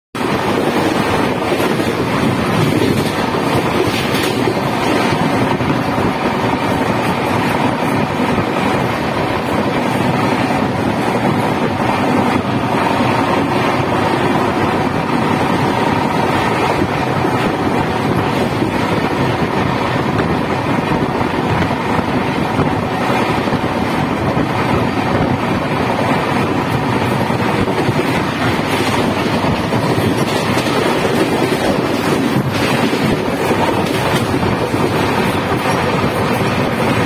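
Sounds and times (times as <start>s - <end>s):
train wheels rumbling on rails: 0.1s - 37.0s
wind rushing: 0.2s - 37.0s.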